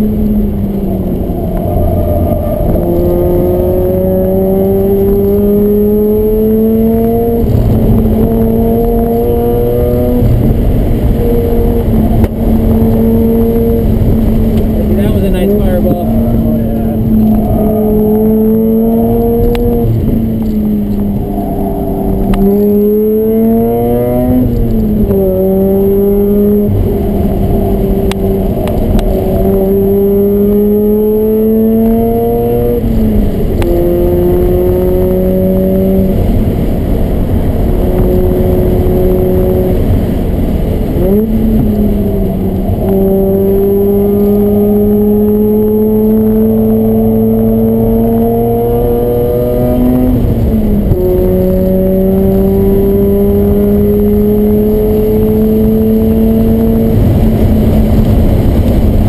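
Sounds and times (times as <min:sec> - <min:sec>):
rotary engine revving: 0:00.0 - 0:59.0.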